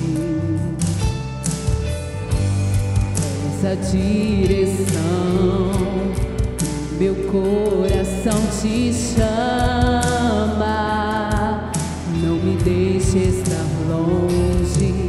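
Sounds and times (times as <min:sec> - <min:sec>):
woman singing into microphone: 0:00.0 - 0:01.1, 0:03.4 - 0:15.0
instrumental accompaniment: 0:00.0 - 0:15.0.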